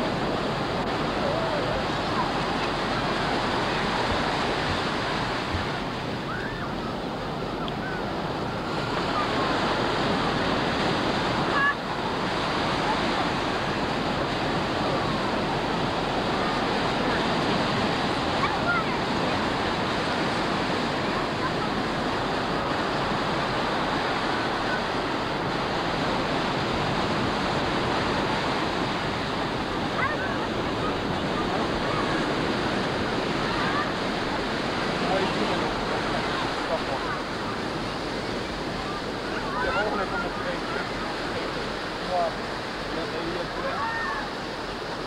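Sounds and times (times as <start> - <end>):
ocean surf breaking: 0.0 - 45.0
wind buffeting microphone: 0.0 - 45.0.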